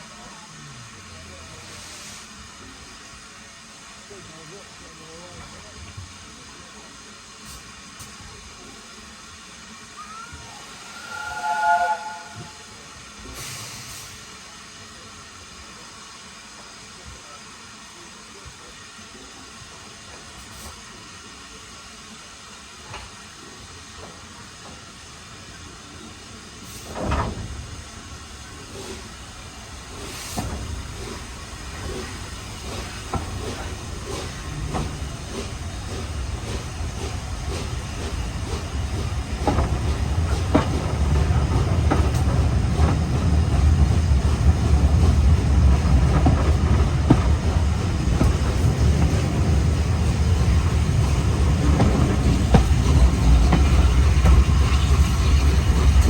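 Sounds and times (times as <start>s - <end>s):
train rumbling on rails: 0.1s - 15.0s, 22.7s - 56.0s
hiss: 0.8s - 56.0s.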